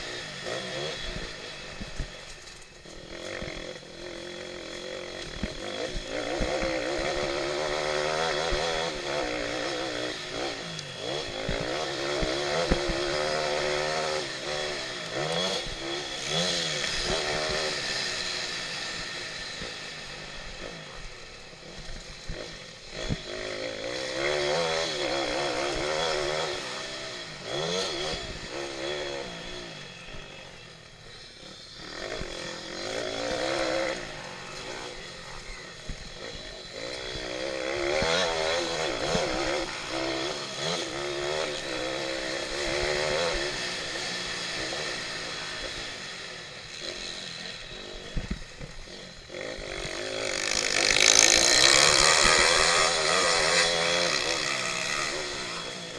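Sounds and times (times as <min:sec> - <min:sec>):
small motorbike engine revving: 0:00.0 - 0:55.9.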